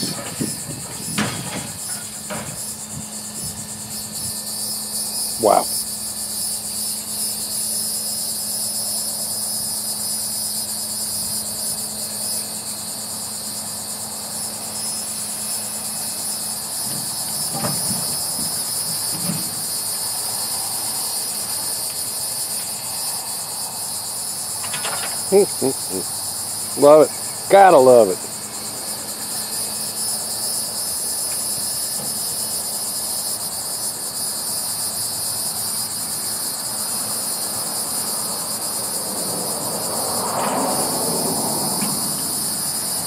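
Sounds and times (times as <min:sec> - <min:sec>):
insect chorus buzzing: 0:00.0 - 0:43.0
low truck engine hum: 0:00.0 - 0:43.0.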